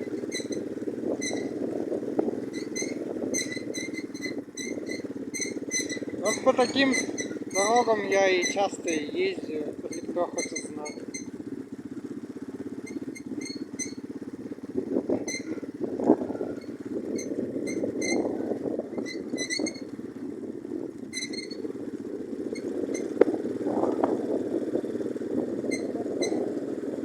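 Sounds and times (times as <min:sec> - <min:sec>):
bike rattling and squeaking: 0:00.0 - 0:27.0
moped engine running: 0:00.0 - 0:27.0.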